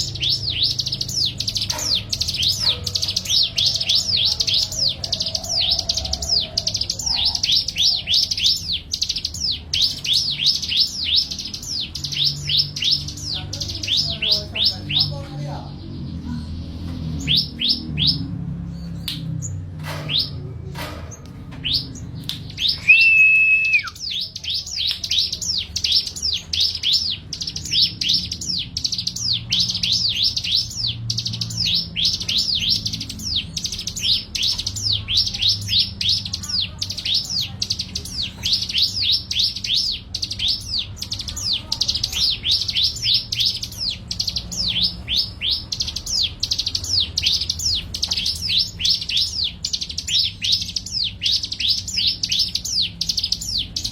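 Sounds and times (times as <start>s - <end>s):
songbird chirping: 0.0s - 53.9s.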